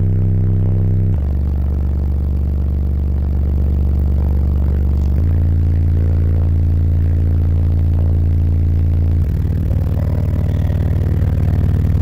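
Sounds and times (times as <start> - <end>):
car subwoofers deep bass note: 0.0 - 12.0.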